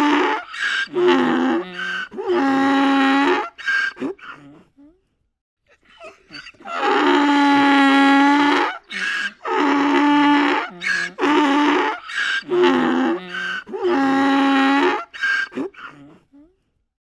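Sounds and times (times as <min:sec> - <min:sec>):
donkey braying: 0:00.0 - 0:04.6, 0:05.7 - 0:16.2.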